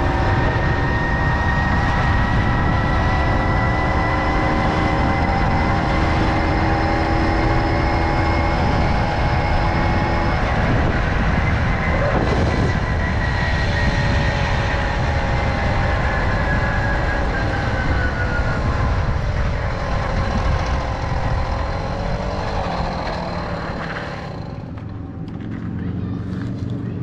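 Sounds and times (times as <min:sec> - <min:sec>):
moped engine running: 0:00.0 - 0:27.0
wind noise rumble: 0:00.0 - 0:27.0.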